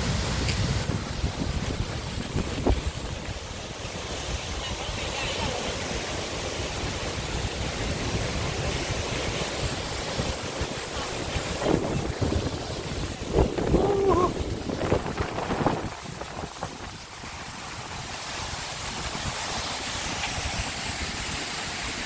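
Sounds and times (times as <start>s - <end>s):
wind buffeting microphone: 0.0s - 5.6s, 6.7s - 21.5s
waterfall rushing: 0.0s - 22.0s.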